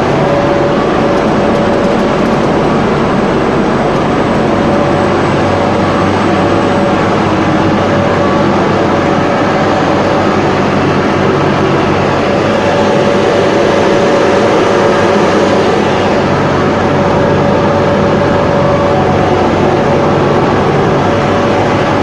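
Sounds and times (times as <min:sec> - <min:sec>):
sanding machine running: 0:00.0 - 0:22.0.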